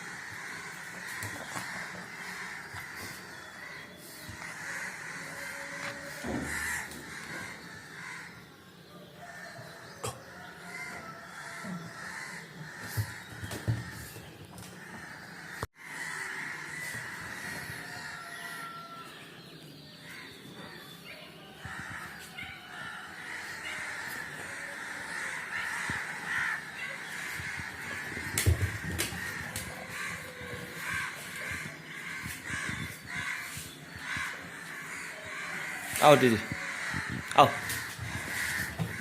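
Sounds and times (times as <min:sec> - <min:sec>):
crows cawing: 0:00.0 - 0:08.6, 0:09.2 - 0:19.0, 0:21.6 - 0:39.0.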